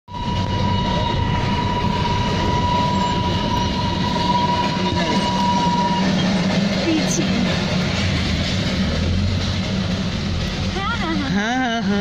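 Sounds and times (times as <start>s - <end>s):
vehicle rumble and rattle: 0.2s - 12.0s.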